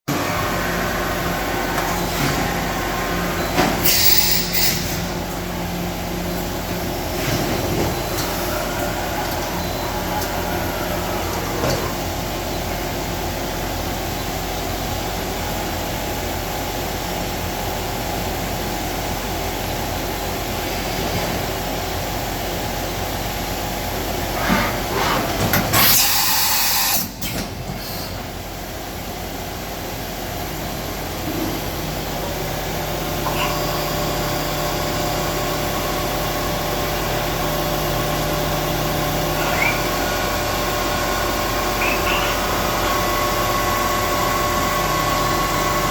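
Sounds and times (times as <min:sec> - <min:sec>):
machining center humming: 0:00.1 - 0:45.9.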